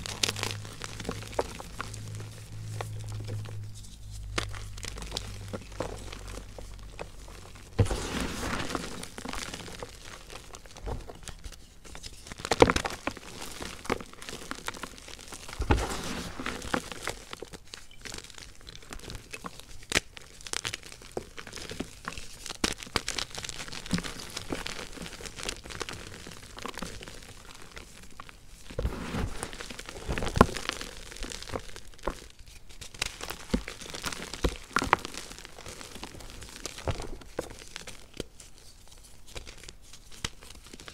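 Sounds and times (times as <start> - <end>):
chalk crunching and crumbling: 0.0 - 40.9.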